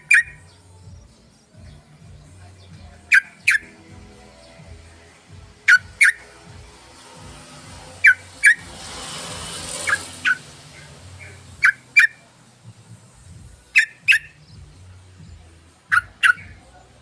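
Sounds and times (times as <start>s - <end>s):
bird chirping: 0.0s - 9.0s, 9.6s - 16.8s.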